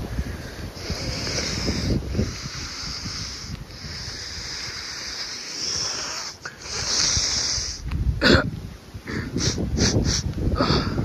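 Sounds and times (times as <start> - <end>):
storm wind hissing: 0.0 - 11.0
wind gusts buffeting microphone: 0.0 - 11.0.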